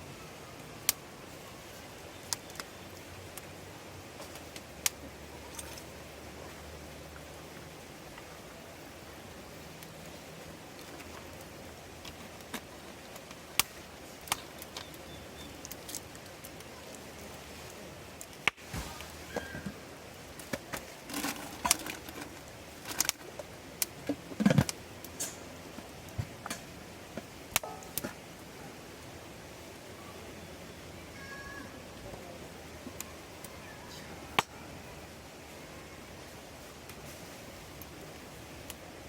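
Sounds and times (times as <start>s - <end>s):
steady low hiss: 0.0s - 39.0s
campfire crackling and popping: 0.5s - 29.9s, 31.9s - 35.4s, 36.1s - 39.0s.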